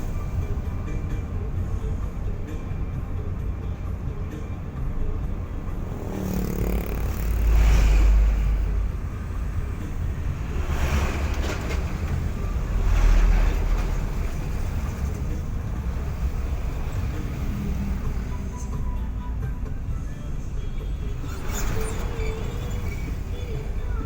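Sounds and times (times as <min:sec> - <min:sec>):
car rumbling on road: 0:00.0 - 0:24.0.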